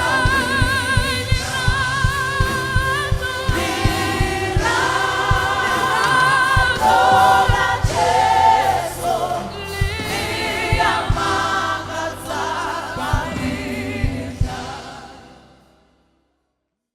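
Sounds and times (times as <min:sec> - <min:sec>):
bass and drum beat: 0:00.0 - 0:15.1
gospel choir singing: 0:00.0 - 0:15.9.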